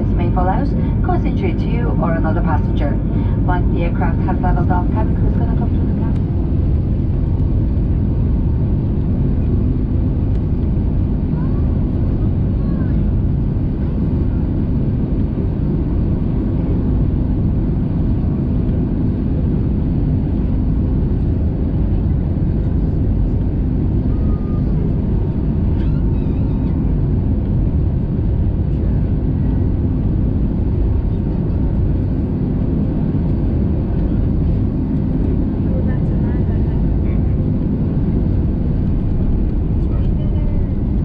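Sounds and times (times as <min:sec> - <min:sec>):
airliner cabin engine rumble: 0:00.0 - 0:41.0.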